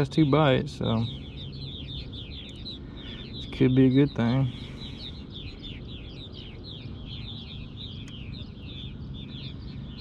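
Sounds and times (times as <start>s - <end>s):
birds chirping: 0.0s - 10.0s
low steady hum: 0.0s - 10.0s.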